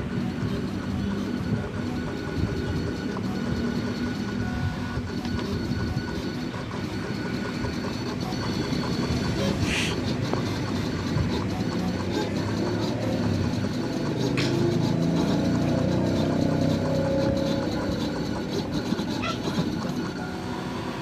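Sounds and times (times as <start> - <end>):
cutting plotter motors whirring: 0.0 - 21.0
low running hum: 0.0 - 21.0.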